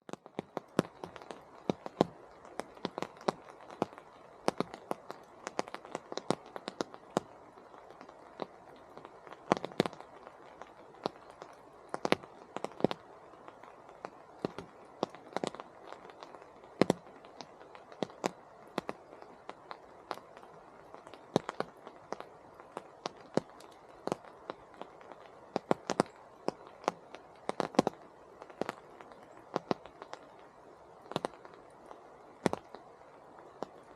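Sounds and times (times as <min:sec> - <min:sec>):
raindrops tapping: 0:00.0 - 0:33.9
soft rain hiss: 0:00.0 - 0:33.9.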